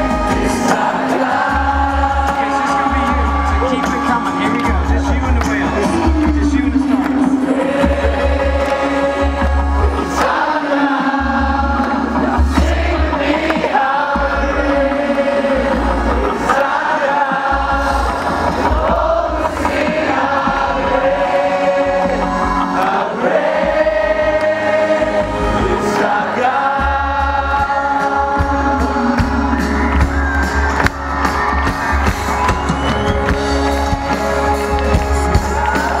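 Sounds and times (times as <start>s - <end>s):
crowd singing along: 0.0s - 3.7s, 5.5s - 36.0s
live worship band playing: 0.0s - 36.0s.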